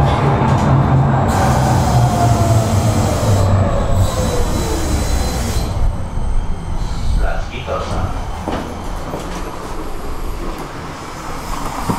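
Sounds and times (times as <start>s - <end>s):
tram motor whine: 0.0s - 11.9s
tram wheels rumbling: 0.0s - 11.9s
high wheel squeal: 1.3s - 11.9s.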